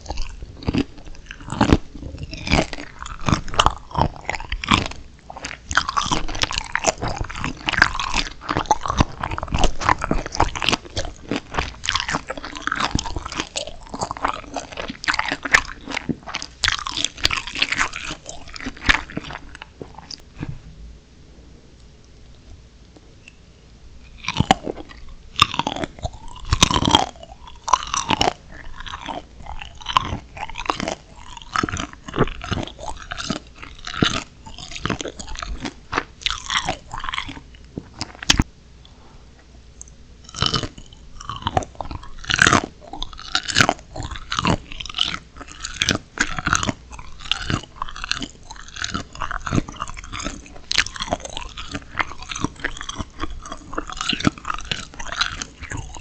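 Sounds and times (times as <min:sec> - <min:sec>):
chewing and crunching shrimp: 0:00.0 - 0:20.7, 0:24.0 - 0:39.0, 0:39.7 - 0:56.0.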